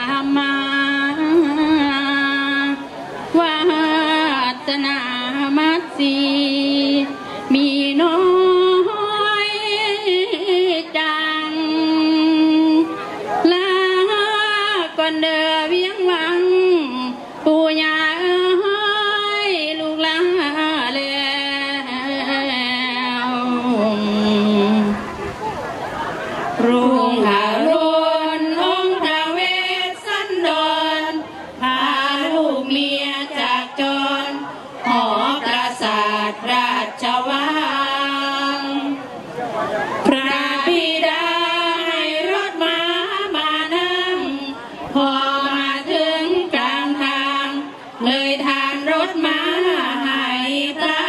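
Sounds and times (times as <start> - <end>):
women singing a devotional chant: 0.0 - 25.1, 26.6 - 39.0, 40.0 - 51.0.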